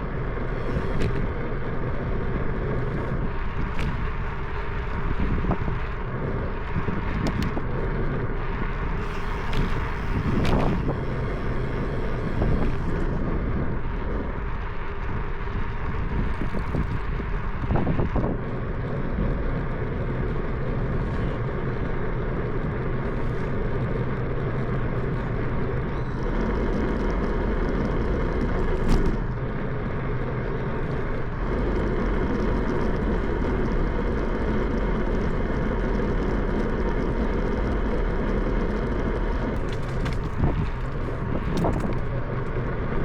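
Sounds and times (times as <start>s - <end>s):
bicycle rolling noise: 0.0s - 43.0s
rushing wind: 0.0s - 43.0s.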